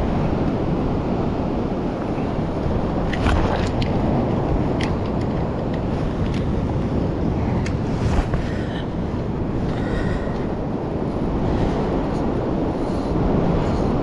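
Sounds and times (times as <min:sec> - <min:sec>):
beach surf: 0:00.0 - 0:14.0
wind buffeting microphone: 0:00.0 - 0:14.0.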